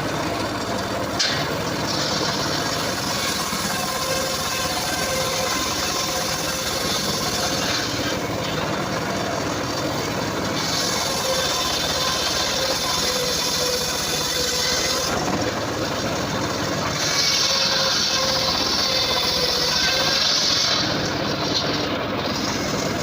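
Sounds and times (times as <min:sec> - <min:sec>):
circular saw cutting wood: 0:00.0 - 0:23.0.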